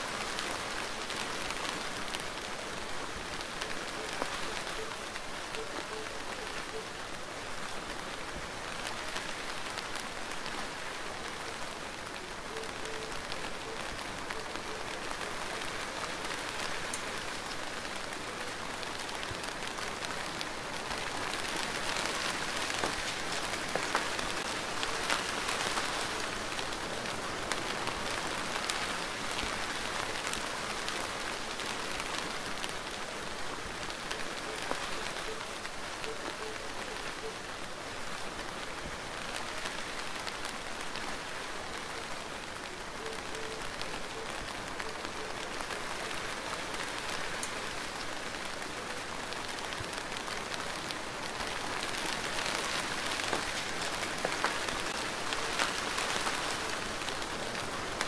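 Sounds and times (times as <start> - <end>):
rain falling: 0.0 - 58.0
raindrops tapping close by: 0.1 - 58.0.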